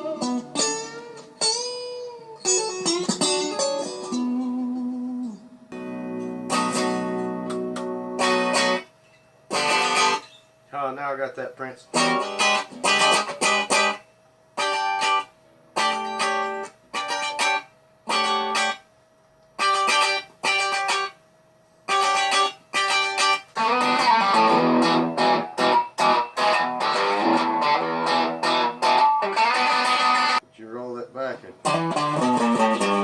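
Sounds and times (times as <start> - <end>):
electric guitar strumming chords: 0.0 - 8.9, 9.5 - 10.2, 11.9 - 18.8, 19.6 - 21.2, 21.9 - 30.4, 31.6 - 33.0.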